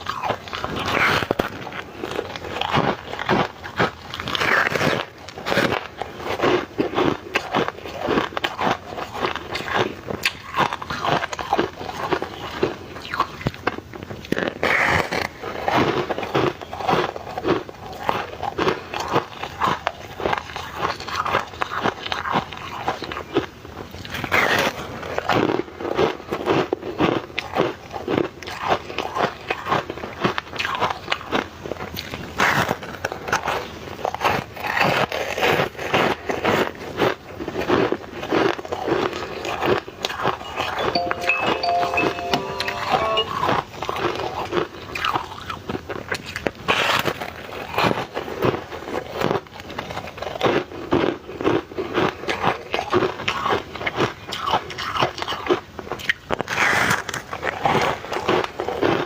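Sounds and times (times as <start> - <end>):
ice being chewed: 0.0 - 42.3, 44.8 - 59.0.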